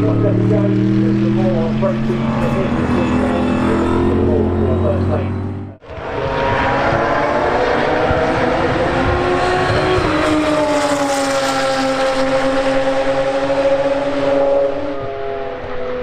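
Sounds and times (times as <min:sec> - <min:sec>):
race car engine passing by: 0:00.0 - 0:16.0.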